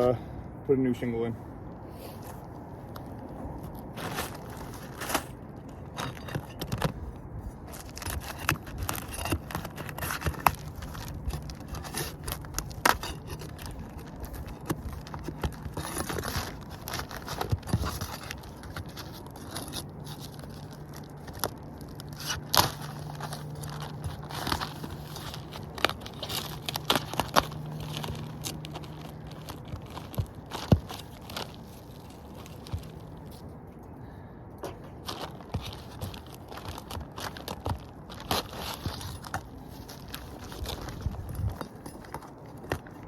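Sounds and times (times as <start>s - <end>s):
low steady hum: 0.0s - 43.0s
tarp crinkling and rustling: 2.2s - 33.3s, 34.7s - 43.0s.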